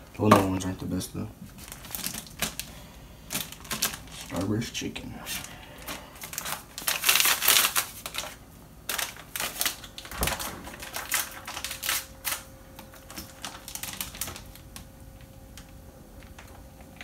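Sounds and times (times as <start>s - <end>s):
faint steady hum: 0.0s - 17.0s
candy wrappers crinkling: 1.4s - 17.0s
plastic bag being handled: 1.4s - 17.0s.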